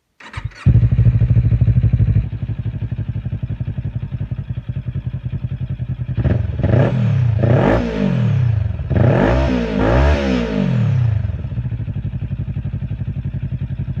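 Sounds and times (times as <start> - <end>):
motorcycle engine idling and revving: 0.2 - 14.0.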